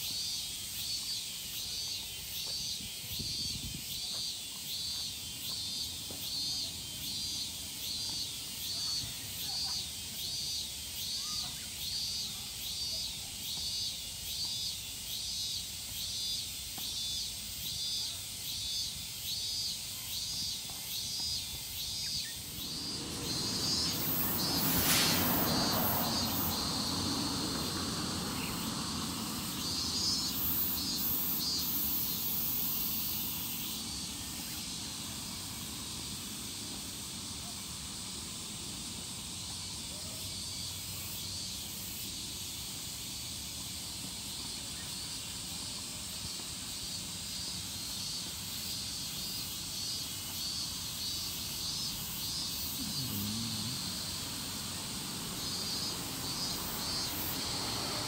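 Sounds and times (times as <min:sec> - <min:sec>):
cicadas calling: 0:00.0 - 0:58.0.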